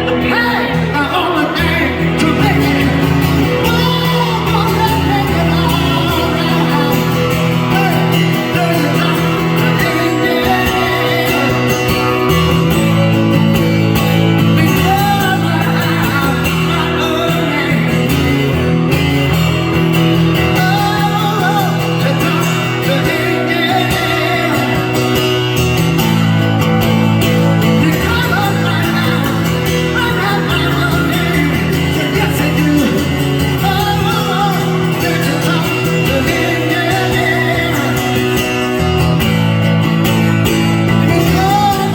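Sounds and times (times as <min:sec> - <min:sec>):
person singing: 0:00.0 - 0:41.9
rock band guitars and bass: 0:00.0 - 0:41.9.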